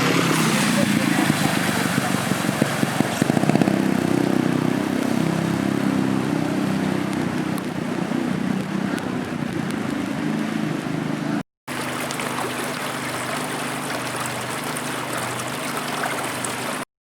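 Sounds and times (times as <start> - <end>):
engine running steadily: 0.0 - 16.8.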